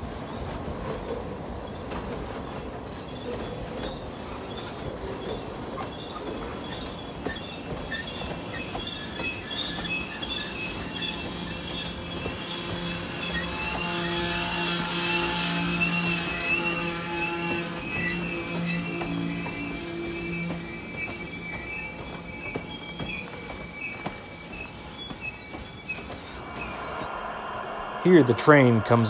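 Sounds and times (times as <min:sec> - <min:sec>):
model train wheels squealing: 0:00.0 - 0:27.1.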